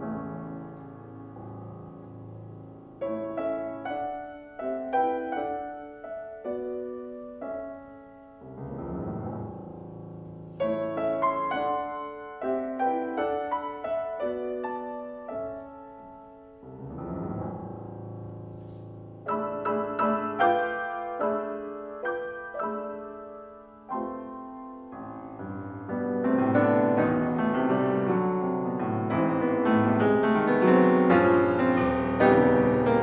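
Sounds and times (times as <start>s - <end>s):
solo piano chords and notes: 0.0s - 33.0s.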